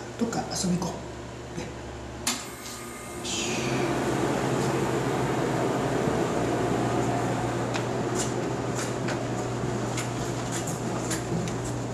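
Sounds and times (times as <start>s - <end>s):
ventilation hum: 0.0s - 11.9s.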